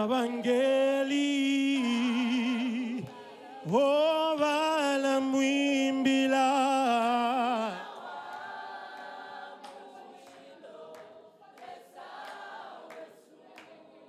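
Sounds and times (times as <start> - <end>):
choir singing: 0.0 - 14.0
lead voice singing: 0.0 - 14.0.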